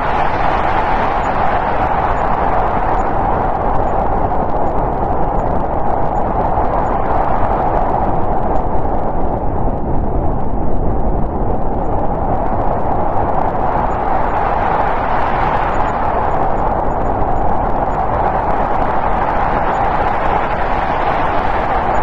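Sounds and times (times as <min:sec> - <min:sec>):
snowstorm wind blowing: 0:00.0 - 0:22.0.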